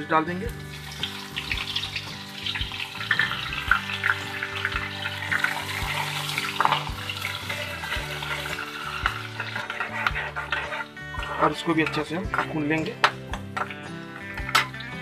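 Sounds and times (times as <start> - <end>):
spices sizzling in hot oil: 0.0 - 15.0
oil popping: 0.6 - 15.0
metal ladle stirring: 0.8 - 15.0.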